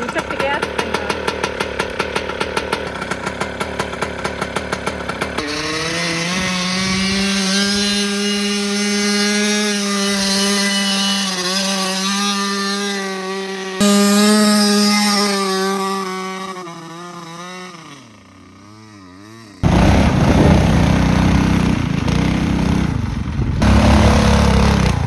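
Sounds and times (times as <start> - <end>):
small bike engine revving: 0.0 - 25.0.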